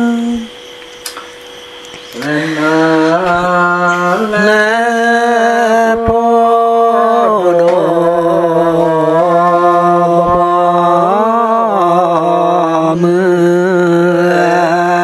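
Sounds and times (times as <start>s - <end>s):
man chanting long notes: 0.0s - 0.6s, 2.0s - 15.0s.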